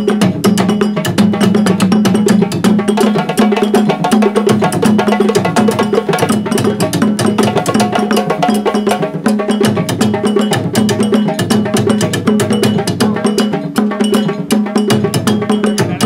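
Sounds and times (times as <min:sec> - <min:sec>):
hand drums playing fast rhythm: 0:00.0 - 0:16.0
low drum pattern: 0:00.0 - 0:16.0.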